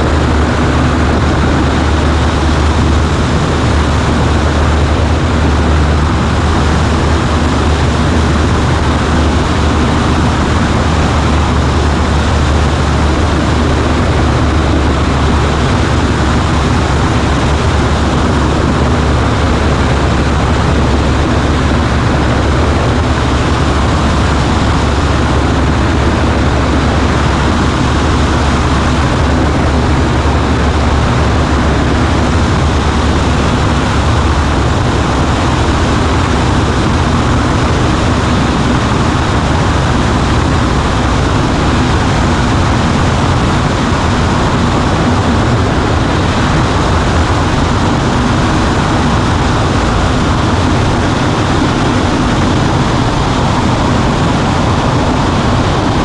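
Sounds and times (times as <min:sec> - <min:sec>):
airplane engine and propeller droning: 0:00.0 - 0:56.0.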